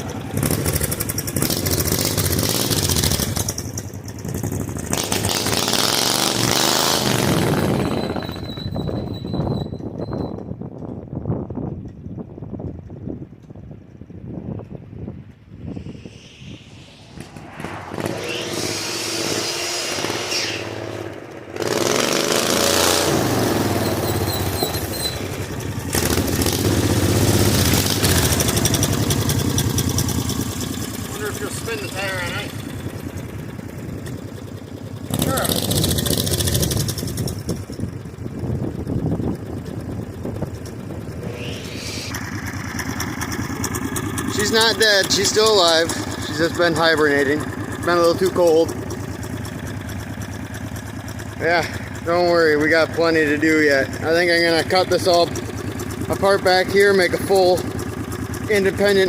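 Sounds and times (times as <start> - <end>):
misfiring engine revving: 0.0 - 8.9, 15.7 - 59.0.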